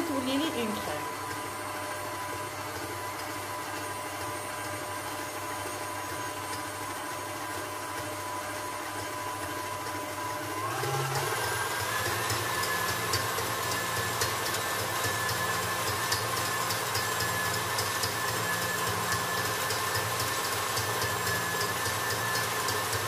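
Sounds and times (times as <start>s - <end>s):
stand mixer whisking cream: 0.0s - 23.0s.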